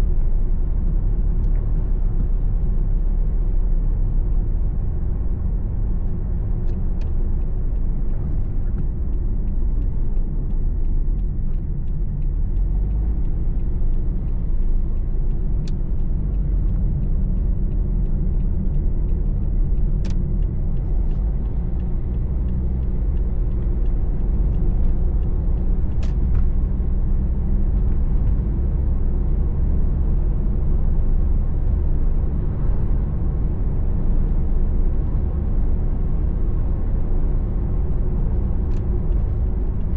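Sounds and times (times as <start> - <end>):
car engine and tyre road noise: 0.0 - 39.9.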